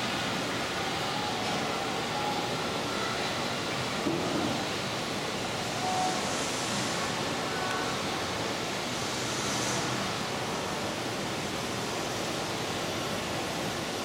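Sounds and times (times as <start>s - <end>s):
model trains running: 0.0s - 14.0s
steady rushing noise: 0.0s - 14.0s.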